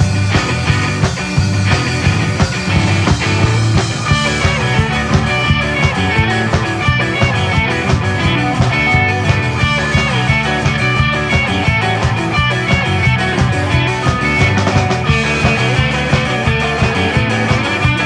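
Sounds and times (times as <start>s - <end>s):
rock band music: 0.0s - 18.0s.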